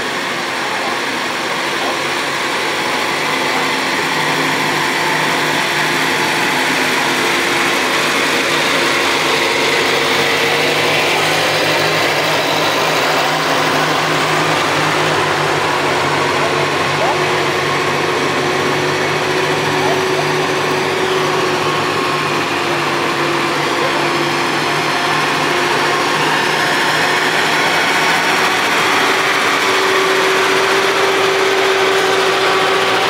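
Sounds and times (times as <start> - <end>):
fire truck engines driving past: 0.0 - 33.0.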